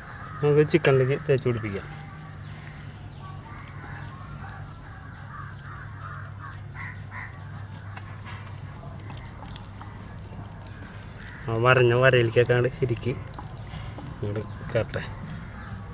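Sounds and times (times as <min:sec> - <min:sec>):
chickens clucking: 0:00.0 - 0:15.9
steady low hum: 0:00.0 - 0:15.9.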